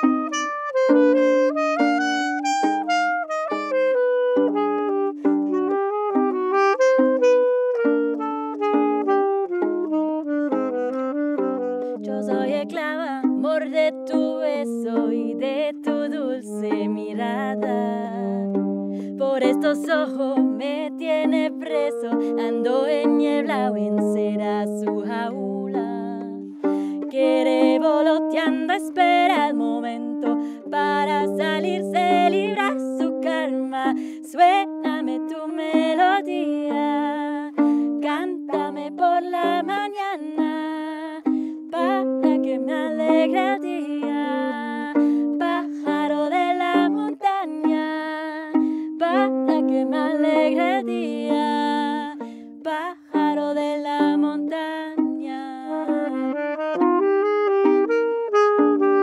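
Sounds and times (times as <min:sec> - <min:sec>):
saxophone melody: 0:00.0 - 0:59.0
strummed ukulele: 0:00.0 - 0:59.0.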